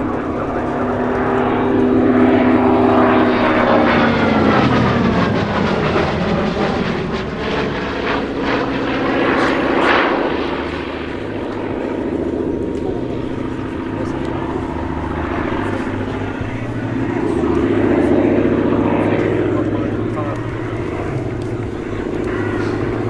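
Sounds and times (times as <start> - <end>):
propeller plane engine flying past: 0.0 - 23.0.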